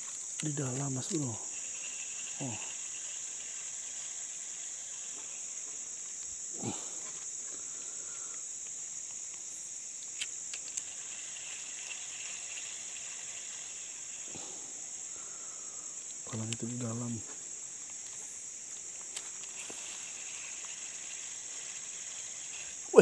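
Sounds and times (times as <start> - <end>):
insect chorus: 0.0 - 23.0.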